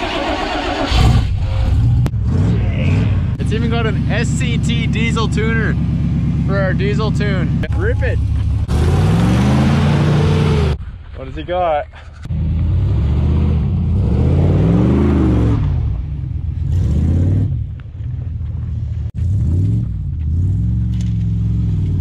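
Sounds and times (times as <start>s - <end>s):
truck engine revving: 0.0s - 10.8s, 12.2s - 22.0s.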